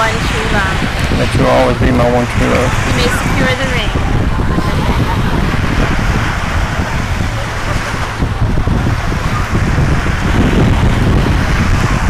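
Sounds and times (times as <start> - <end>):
sea surf washing: 0.0 - 12.0
wind rumbling on microphone: 0.0 - 12.0.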